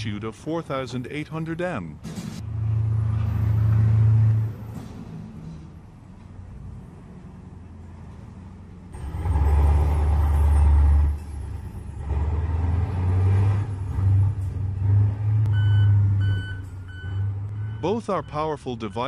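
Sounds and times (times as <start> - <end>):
truck diesel engine rumbling: 0.0 - 19.0.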